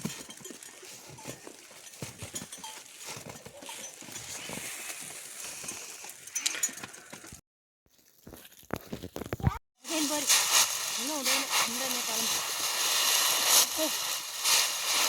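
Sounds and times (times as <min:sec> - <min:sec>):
hooves clattering on stony ground: 0:00.0 - 0:07.4, 0:08.1 - 0:15.0.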